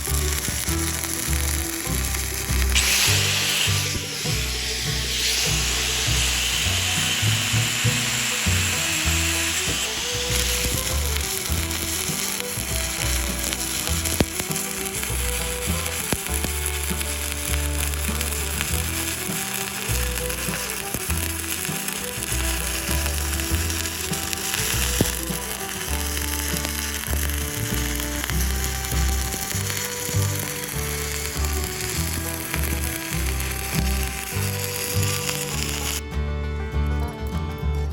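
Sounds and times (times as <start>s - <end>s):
welding arc crackling: 0.0s - 36.0s
background music: 0.0s - 37.9s.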